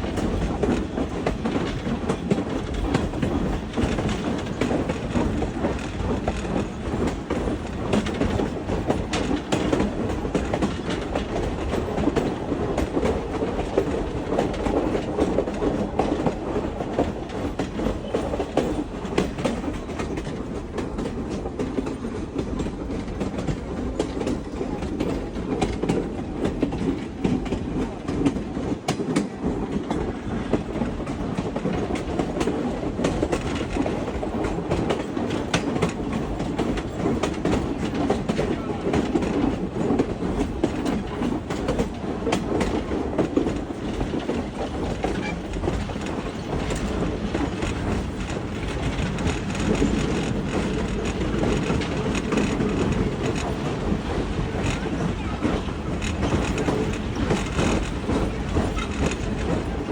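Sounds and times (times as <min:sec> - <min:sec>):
train clicks and rattles: 0:00.0 - 0:59.9
train wheels rumbling on rails: 0:00.0 - 0:59.9.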